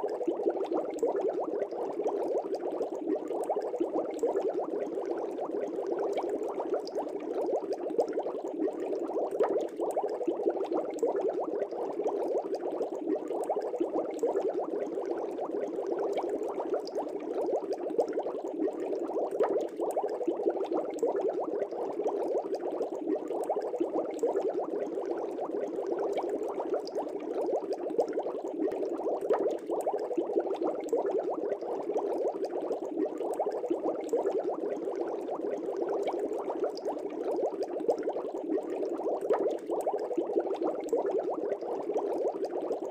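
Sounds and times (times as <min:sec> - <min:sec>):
aquarium water bubbling: 0:00.0 - 0:42.9.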